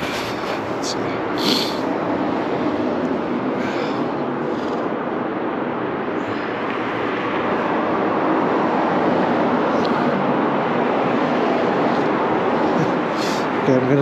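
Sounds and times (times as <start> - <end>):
rushing vehicle noise: 0.0 - 14.0.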